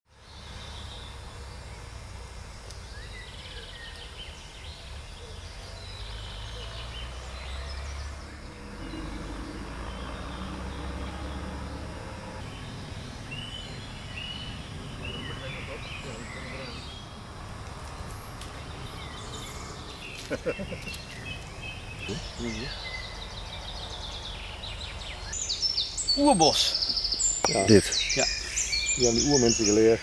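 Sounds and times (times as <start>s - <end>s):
birds chirping and calling: 0.1s - 30.0s.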